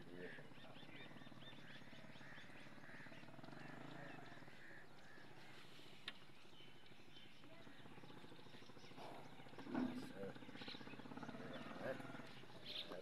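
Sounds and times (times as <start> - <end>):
bird calling: 0.0 - 13.0.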